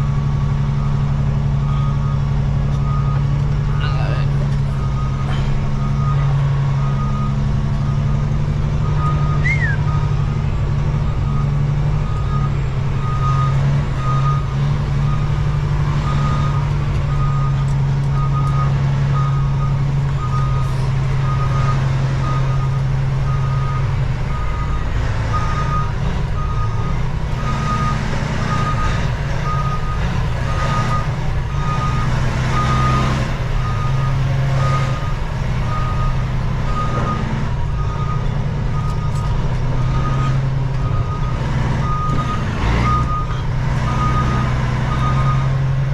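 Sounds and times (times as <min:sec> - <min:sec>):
diesel engine running: 0:00.0 - 0:45.9
truck backup alarm beeping: 0:00.0 - 0:45.9.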